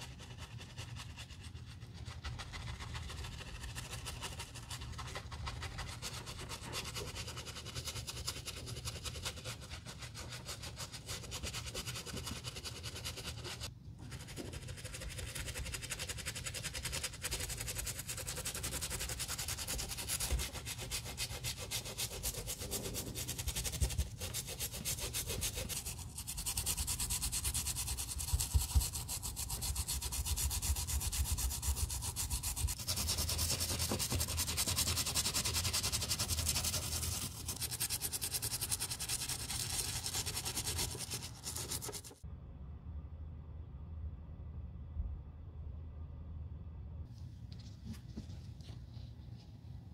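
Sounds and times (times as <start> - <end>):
brushes scrubbing a sneaker: 0.0 - 42.2.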